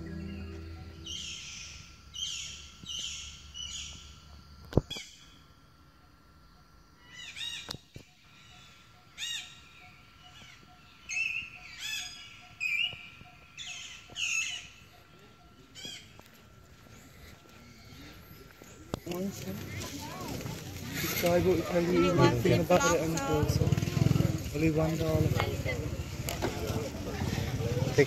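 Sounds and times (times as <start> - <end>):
birds chirping: 0.0 - 4.2, 7.1 - 28.0.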